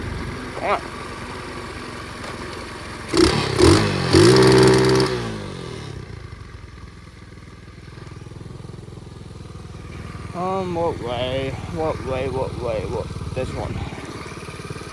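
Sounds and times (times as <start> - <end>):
motorbike engine revving: 0.0 - 14.9.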